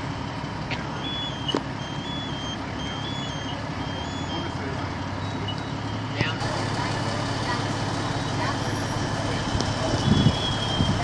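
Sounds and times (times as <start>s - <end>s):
vehicle engines idling: 0.0s - 11.0s
vehicle warning beeper: 0.8s - 11.0s.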